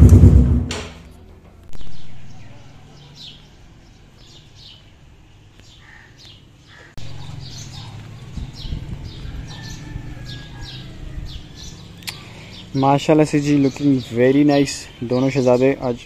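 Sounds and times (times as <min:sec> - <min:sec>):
small birds chirping: 0:01.7 - 0:16.0.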